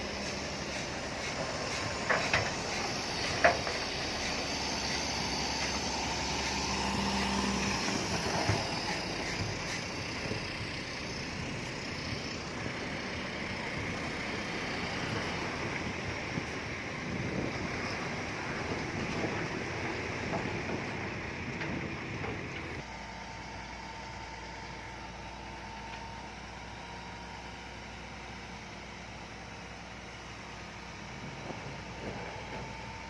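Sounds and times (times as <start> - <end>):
heavy machinery rumbling: 0.0 - 26.6, 30.4 - 33.0.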